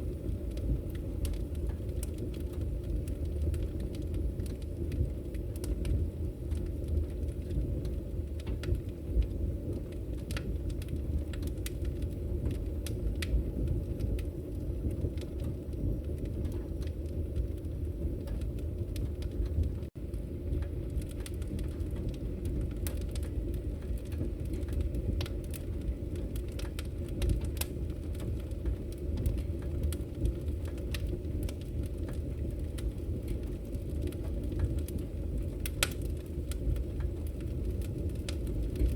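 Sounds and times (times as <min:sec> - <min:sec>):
burning logs crackling and popping: 0:00.0 - 0:38.9
wood fire roaring: 0:00.0 - 0:38.9.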